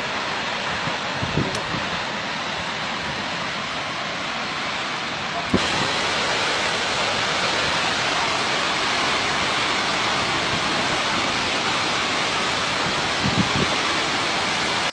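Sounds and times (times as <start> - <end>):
waterfall falling: 0.0 - 14.9.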